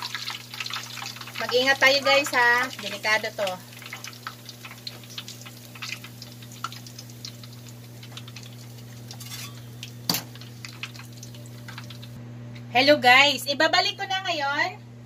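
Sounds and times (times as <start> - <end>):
frying oil crackling and popping: 0.0 - 12.2.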